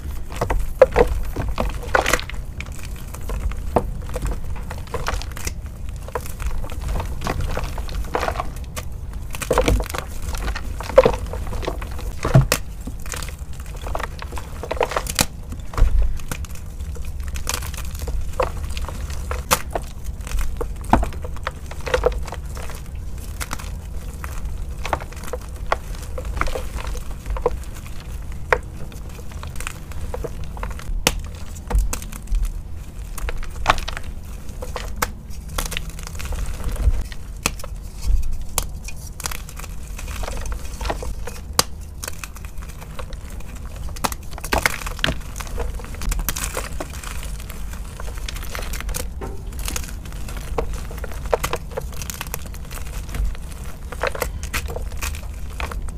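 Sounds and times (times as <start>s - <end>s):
steady low rumble: 0.0s - 55.9s.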